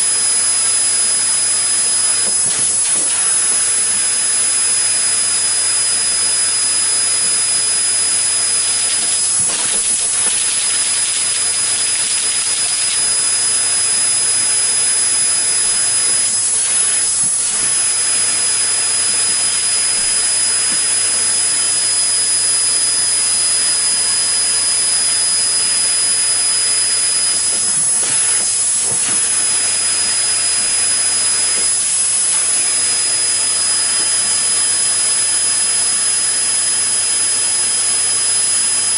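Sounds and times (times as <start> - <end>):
thin high whine: 0.0 - 38.9.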